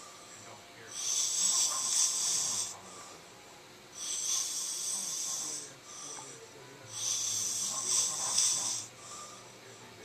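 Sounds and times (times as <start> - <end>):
man snoring: 0.9 - 3.1, 4.0 - 9.8.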